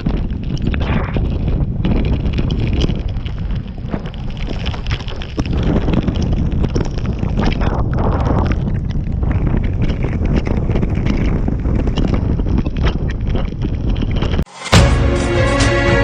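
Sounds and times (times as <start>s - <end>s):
short crackles: 0.0s - 14.5s
wind buffeting microphone: 0.0s - 14.5s.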